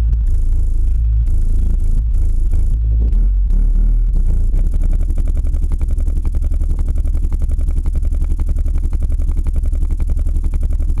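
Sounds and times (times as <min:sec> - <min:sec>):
loud deep subwoofer bass: 0:00.0 - 0:11.0
rapid crackle: 0:00.0 - 0:11.0.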